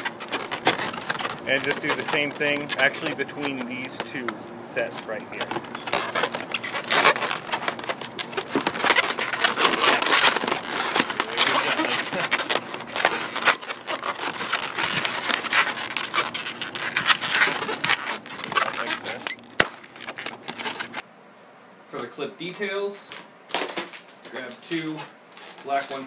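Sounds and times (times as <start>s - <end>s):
balloons squeaking being twisted: 0.0s - 21.0s, 24.8s - 26.0s.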